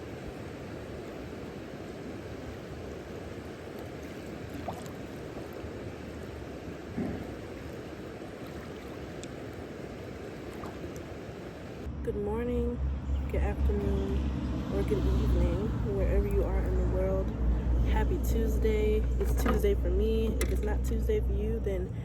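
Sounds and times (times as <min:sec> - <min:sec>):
outdoor rushing background noise: 0:00.0 - 0:22.0.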